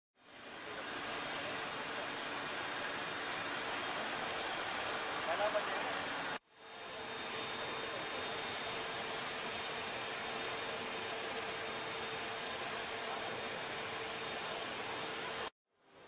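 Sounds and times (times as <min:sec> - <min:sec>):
machine noise with high whine: 0:00.2 - 0:16.0.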